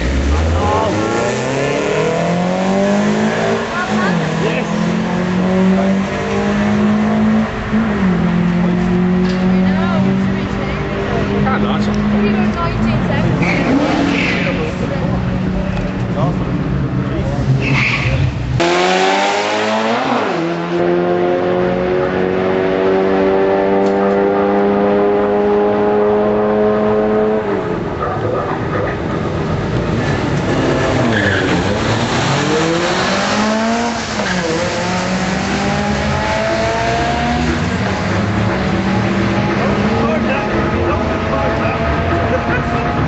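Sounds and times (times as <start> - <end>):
car engines revving hard: 0.0 - 43.0.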